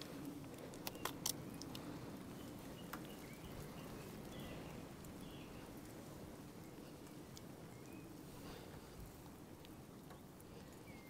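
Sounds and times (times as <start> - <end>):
distant bird calls: 0.0 - 11.0.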